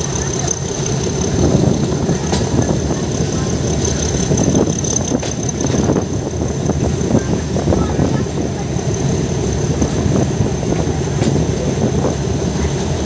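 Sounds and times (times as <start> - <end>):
coaches rattling and clacking: 0.0 - 13.0
train wheels rumbling on track: 0.0 - 13.0.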